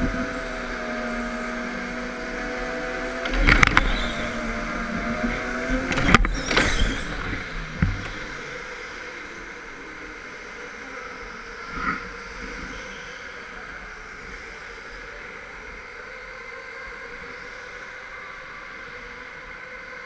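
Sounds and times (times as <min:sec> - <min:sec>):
go-kart motor: 0:00.0 - 0:20.0.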